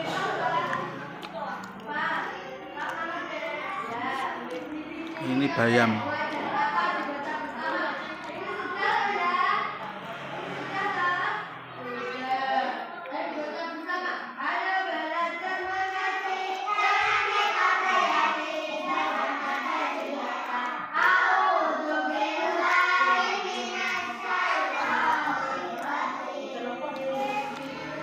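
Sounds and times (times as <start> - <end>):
children singing and chattering: 0.0 - 28.0.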